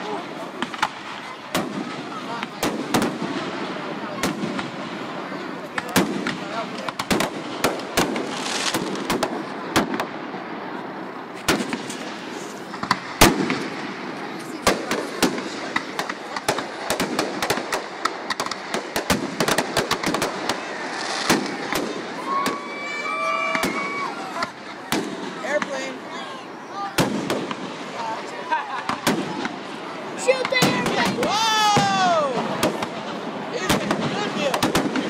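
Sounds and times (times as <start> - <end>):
fireworks bangs: 0.0 - 35.0
fireworks crackling: 0.0 - 35.0.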